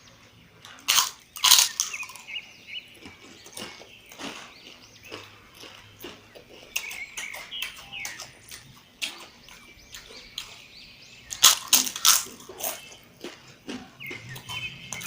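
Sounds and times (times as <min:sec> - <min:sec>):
chewing and lip-smacking: 0:00.6 - 0:15.0.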